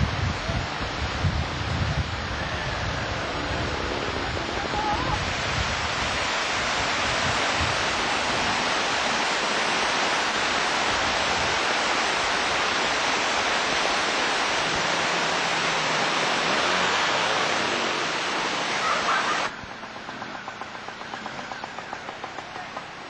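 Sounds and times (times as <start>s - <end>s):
stream rushing over rocks: 0.0s - 19.8s.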